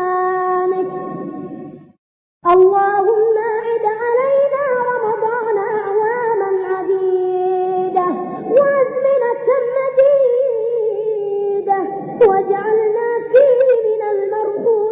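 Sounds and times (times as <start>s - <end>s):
person chanting melodically: 2.5s - 14.9s.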